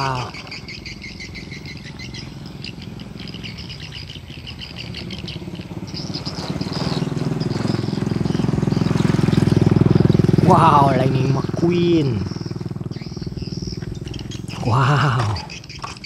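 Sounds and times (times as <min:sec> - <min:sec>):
low engine-like drone: 0:00.0 - 0:16.0
small birds chirping: 0:00.0 - 0:16.0.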